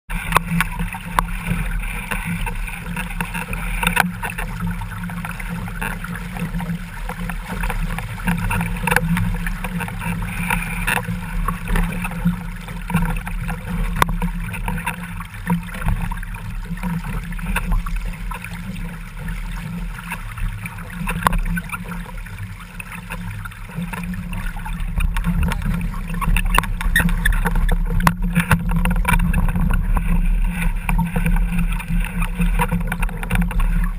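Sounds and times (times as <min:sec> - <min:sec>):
water rushing past boat hull: 0:00.1 - 0:33.9.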